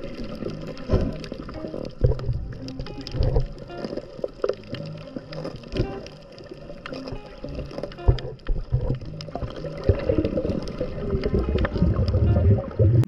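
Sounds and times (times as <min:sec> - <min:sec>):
muffled underwater movement: 0:00.0 - 0:13.0.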